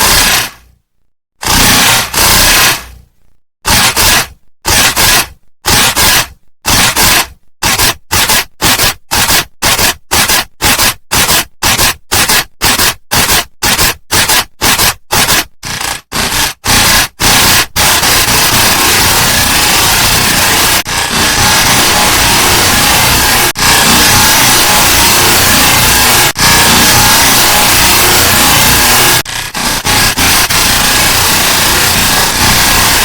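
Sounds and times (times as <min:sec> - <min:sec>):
harsh noisy bursts: 0:00.0 - 0:00.8, 0:01.4 - 0:33.0.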